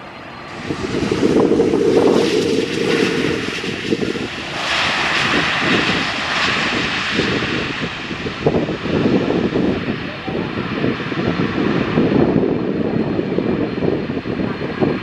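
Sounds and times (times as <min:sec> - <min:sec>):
jet engines rushing on landing: 0:00.0 - 0:15.0.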